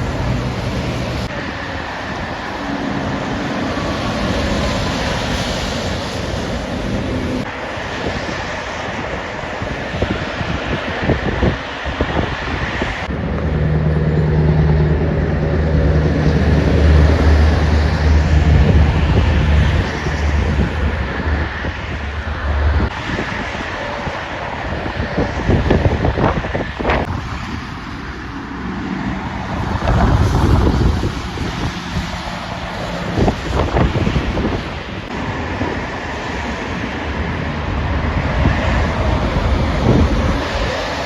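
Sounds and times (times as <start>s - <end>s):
heavy truck engine: 0.0s - 41.0s
tyre and traffic noise: 0.0s - 41.0s
wind buffeting microphone: 0.0s - 41.0s.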